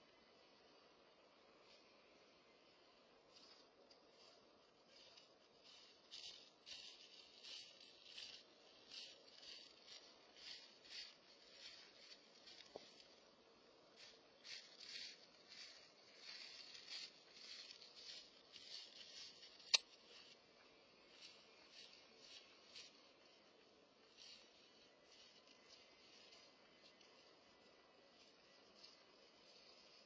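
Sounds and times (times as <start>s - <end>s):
footsteps rustling dry leaves: 3.3s - 30.0s.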